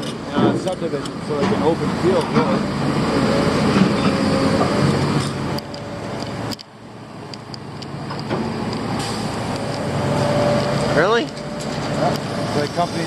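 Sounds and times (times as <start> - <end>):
heavy machinery diesel engine: 0.0 - 13.0.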